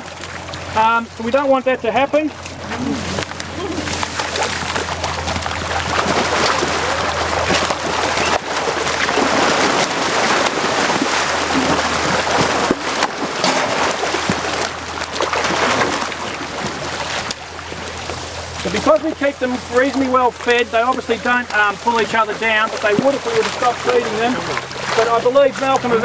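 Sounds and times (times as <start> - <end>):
crocodiles thrashing in water: 2.3 - 26.0.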